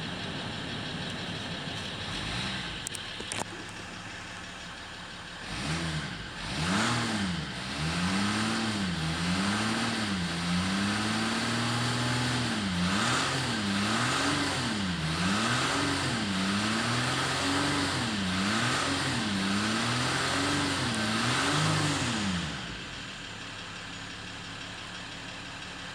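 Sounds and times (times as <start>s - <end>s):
diesel engine revving: 0.0s - 25.9s.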